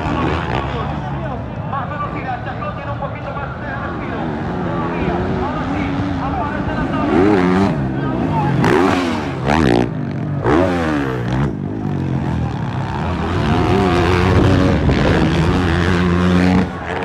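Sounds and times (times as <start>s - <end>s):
dirt bike engines at full throttle: 0.0s - 17.0s.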